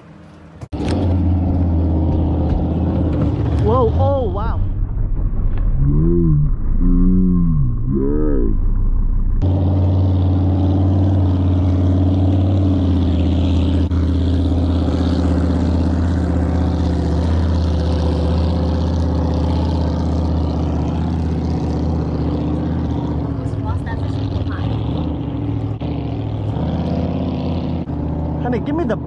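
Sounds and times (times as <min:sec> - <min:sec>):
outboard motor running: 0:00.6 - 0:29.0.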